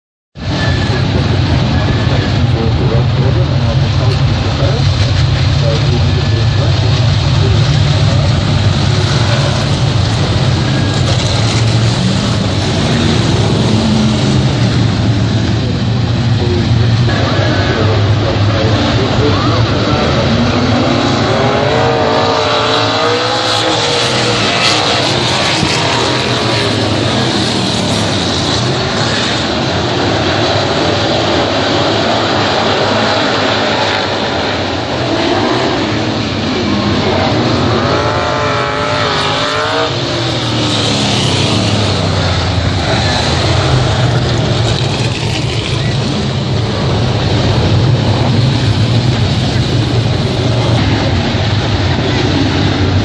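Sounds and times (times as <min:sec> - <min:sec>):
engine revving: 0:00.4 - 0:53.0
race car engines running: 0:00.4 - 0:53.0.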